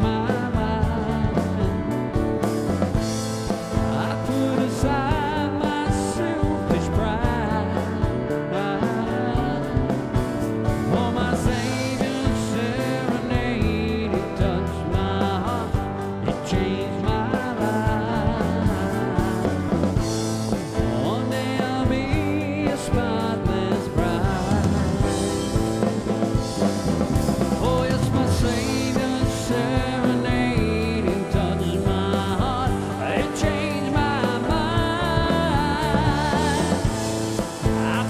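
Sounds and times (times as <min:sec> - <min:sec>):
band with steady drum beat: 0:00.0 - 0:38.0
person singing: 0:00.0 - 0:38.0.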